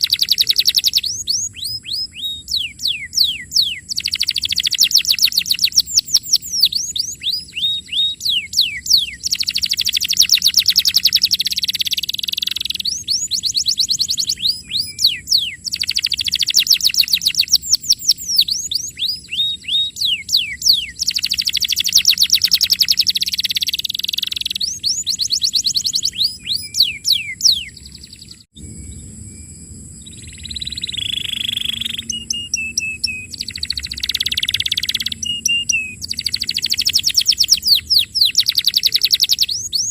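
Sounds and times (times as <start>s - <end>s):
canary singing trills: 0.0s - 29.4s, 30.0s - 39.9s.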